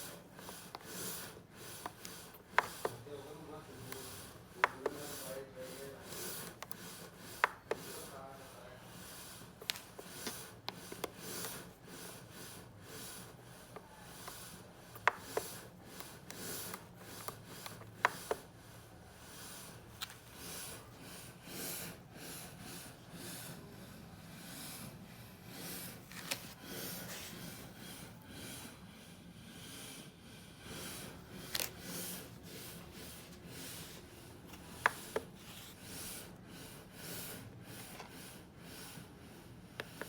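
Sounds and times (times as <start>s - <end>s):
rubbing and handling noise: 0.0s - 23.6s, 24.8s - 28.3s, 30.7s - 36.4s.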